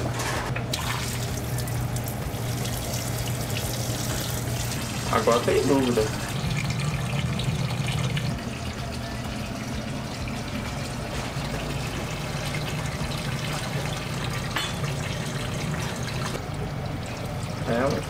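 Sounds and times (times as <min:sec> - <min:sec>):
constant low hum: 0:00.0 - 0:18.0
broth bubbling in a pot: 0:00.7 - 0:18.0.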